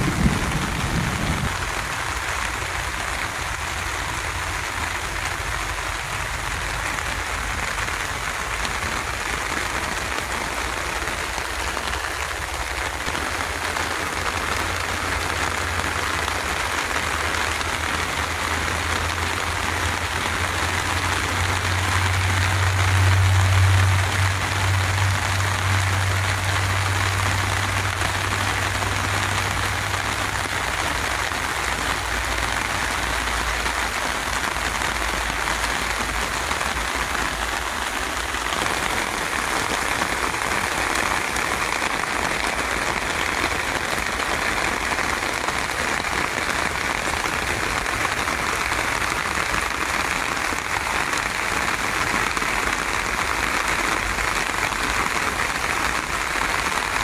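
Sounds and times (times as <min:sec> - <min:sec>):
rain falling on plants: 0:00.0 - 0:57.0.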